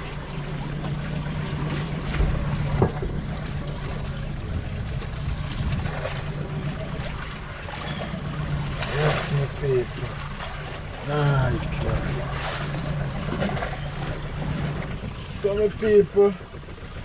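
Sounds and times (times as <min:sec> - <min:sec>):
boat motor hum: 0:00.0 - 0:17.0
water noise: 0:00.0 - 0:17.0
wind: 0:00.0 - 0:17.0.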